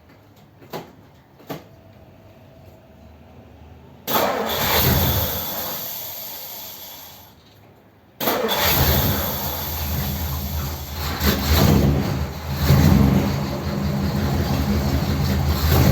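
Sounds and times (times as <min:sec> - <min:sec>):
car engine starting and running: 0:01.4 - 0:07.3, 0:08.2 - 0:15.9.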